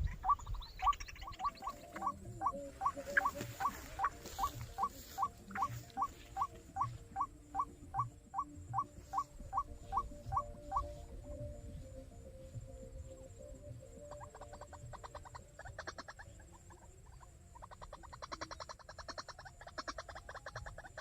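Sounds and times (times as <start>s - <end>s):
bird squeaky calls: 0.0s - 10.9s, 14.1s - 21.0s.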